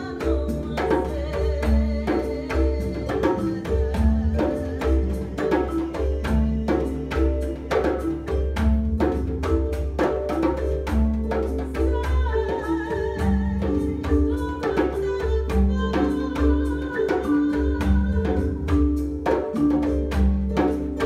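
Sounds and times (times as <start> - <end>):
marimba notes: 0.0 - 21.0.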